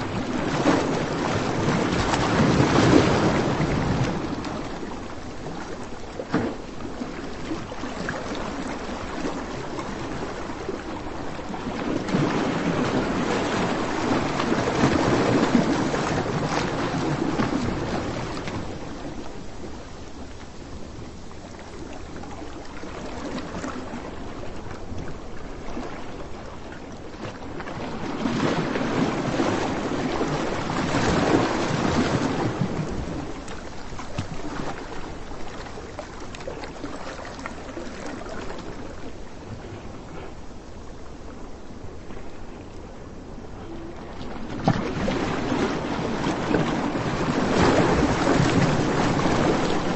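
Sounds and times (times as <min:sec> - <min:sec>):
ocean surf breaking: 0:00.0 - 0:24.6, 0:27.4 - 0:40.5, 0:41.3 - 0:49.9.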